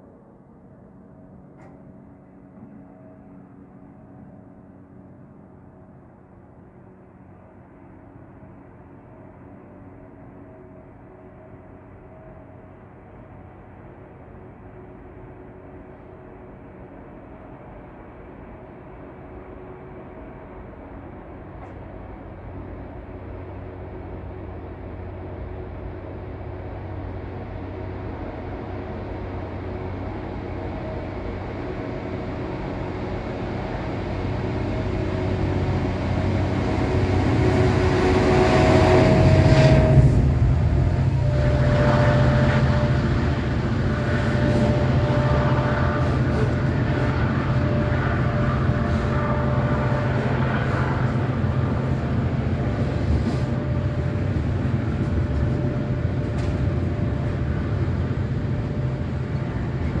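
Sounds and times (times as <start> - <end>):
diesel locomotive engine: 0.0 - 60.0.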